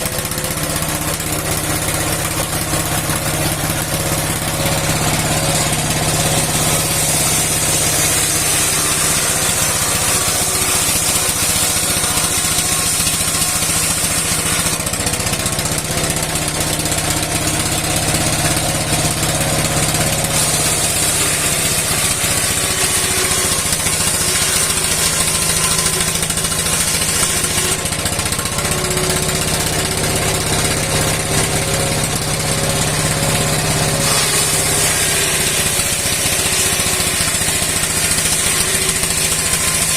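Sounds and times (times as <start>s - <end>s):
old stationary engine running: 0.0s - 39.9s
saw blade hissing: 0.0s - 39.9s.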